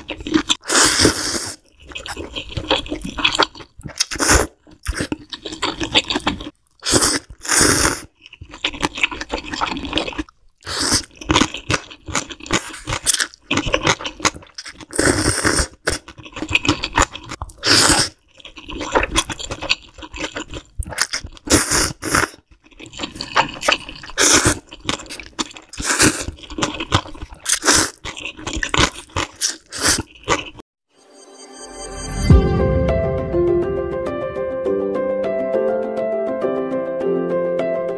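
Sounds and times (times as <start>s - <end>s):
slurping noodles: 0.0s - 30.6s.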